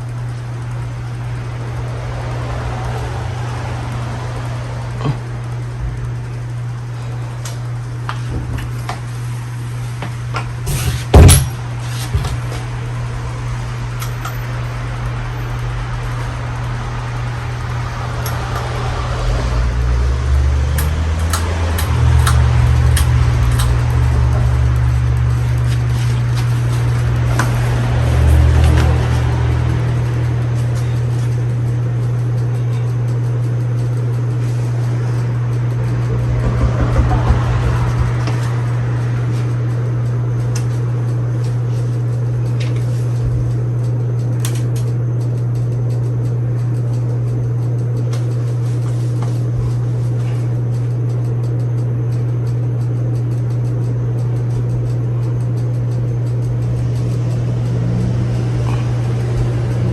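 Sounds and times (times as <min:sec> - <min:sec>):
ceiling fan motor hum: 0:00.0 - 0:59.9.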